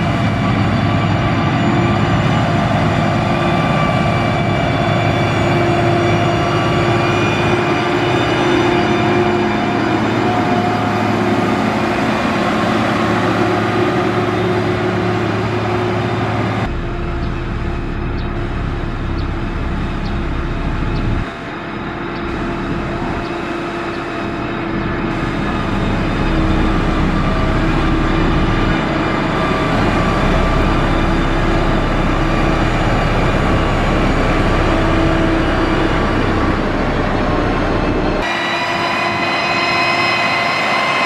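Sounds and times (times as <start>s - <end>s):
diesel machine engine running: 0.0s - 41.0s
steady droning tone: 0.0s - 41.0s.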